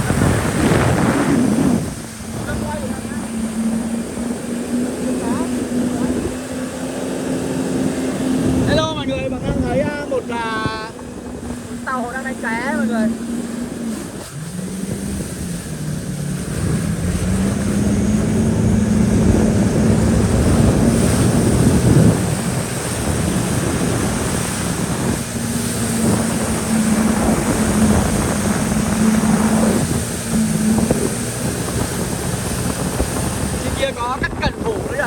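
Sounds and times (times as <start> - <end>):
jet ski engine running: 0.0 - 35.0
water rushing: 0.0 - 35.0
wind buffeting microphone: 0.0 - 35.0.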